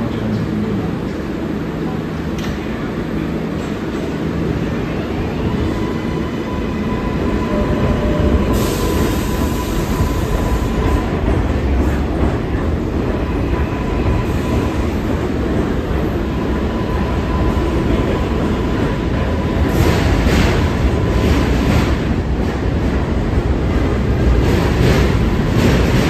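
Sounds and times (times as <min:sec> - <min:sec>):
subway train rumbling past: 0:00.0 - 0:26.0.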